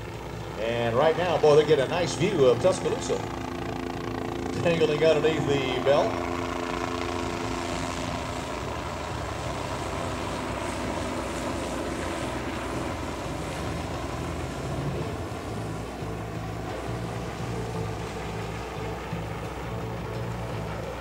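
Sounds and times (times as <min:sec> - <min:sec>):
helicopter in flight: 0:00.0 - 0:21.0.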